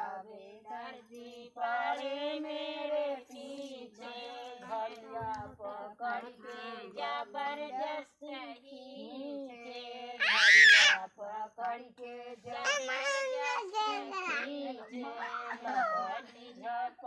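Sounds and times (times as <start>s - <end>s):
women singing folk song: 0.0s - 17.0s.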